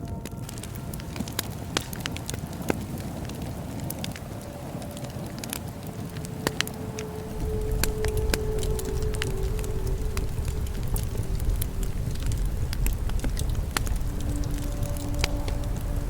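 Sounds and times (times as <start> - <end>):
bonfire flames rumbling: 0.0 - 16.0
burning wood crackling and popping: 0.0 - 16.0.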